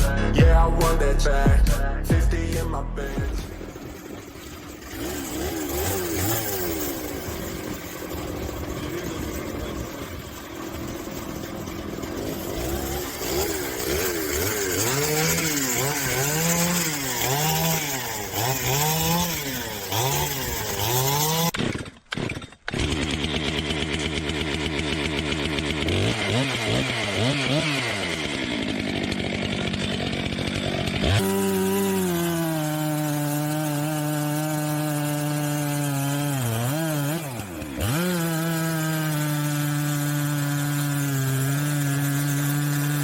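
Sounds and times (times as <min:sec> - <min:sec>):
chainsaw revving while cutting: 0:02.4 - 0:43.0.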